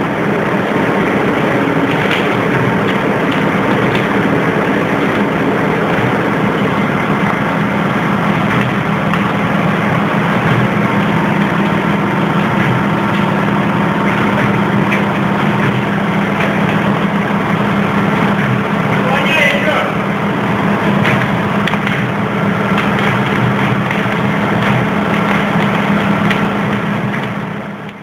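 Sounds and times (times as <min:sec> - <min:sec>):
electric arc furnace humming and crackling: 0:00.0 - 0:28.0.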